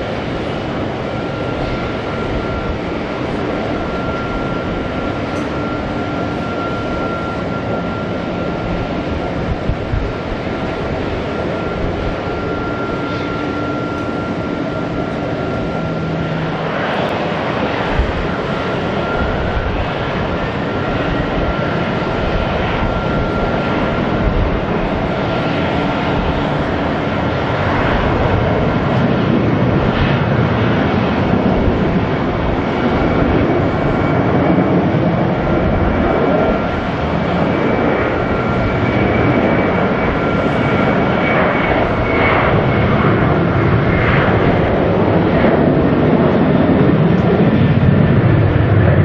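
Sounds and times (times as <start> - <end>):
jet engines humming: 0.0 - 49.0.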